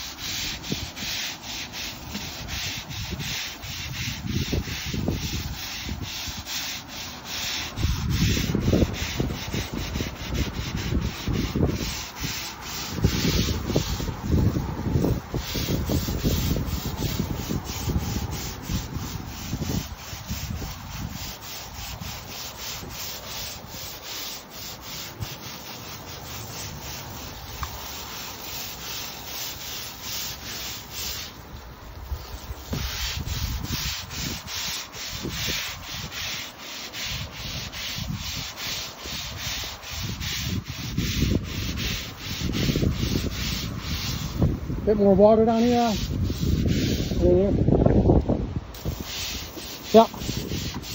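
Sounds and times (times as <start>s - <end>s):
brush scrubbing wet boards: 0.0s - 50.9s.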